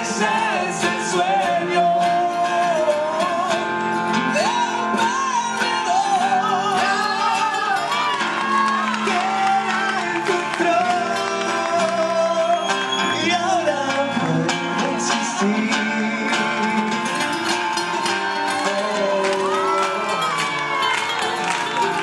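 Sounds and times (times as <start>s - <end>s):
male voices singing: 0.0s - 22.0s
rock band with acoustic guitar: 0.0s - 22.0s.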